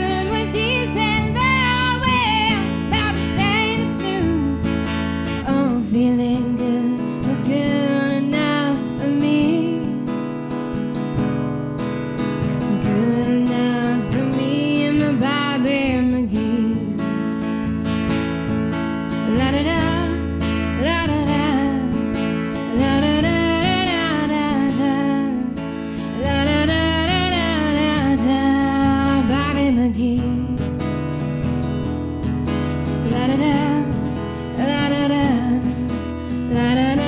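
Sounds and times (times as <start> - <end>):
strummed acoustic guitar: 0.0 - 37.0.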